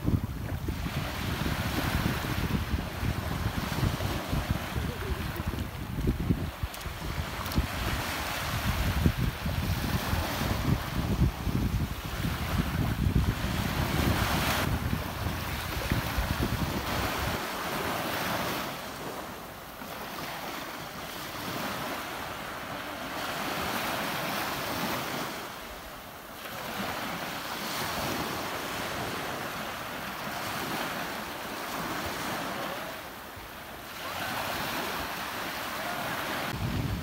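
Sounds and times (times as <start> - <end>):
ocean waves breaking on shore: 0.0 - 37.0.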